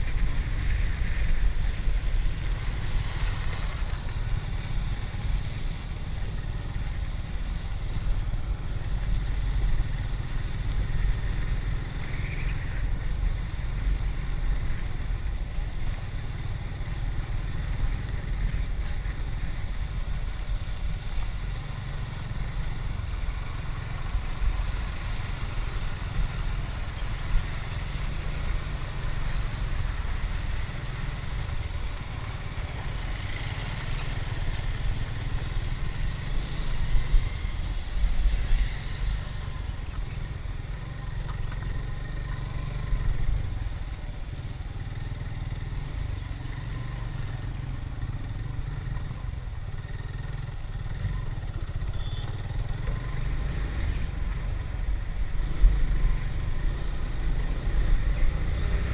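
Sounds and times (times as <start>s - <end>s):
motorcycle engine: 0.0s - 58.9s.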